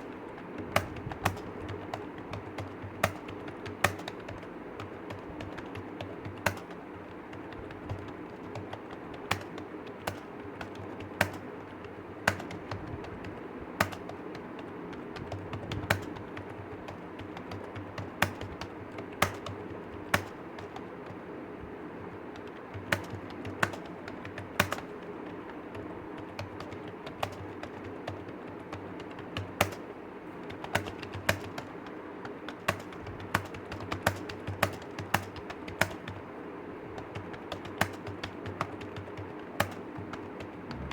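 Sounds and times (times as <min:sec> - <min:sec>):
keyboard key clicks: 0:00.0 - 0:21.2, 0:22.3 - 0:36.2, 0:37.0 - 0:40.9
background hum: 0:00.0 - 0:40.9.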